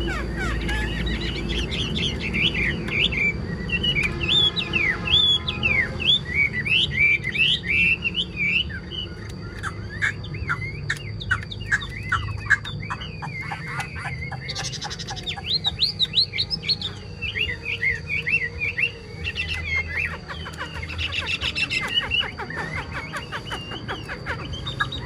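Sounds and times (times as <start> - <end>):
bird singing whistled notes: 0.0 - 25.0.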